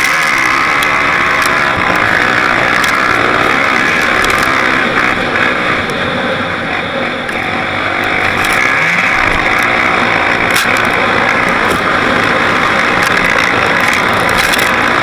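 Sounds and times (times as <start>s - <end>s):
quad bike engine at speed: 0.0s - 15.0s.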